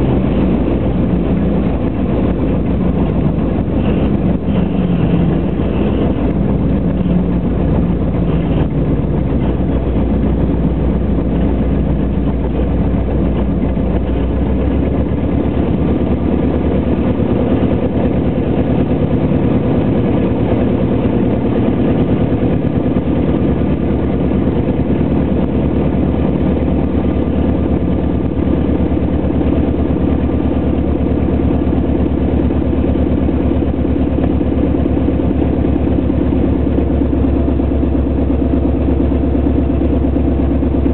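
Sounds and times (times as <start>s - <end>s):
propeller plane engine idling: 0.0s - 40.9s.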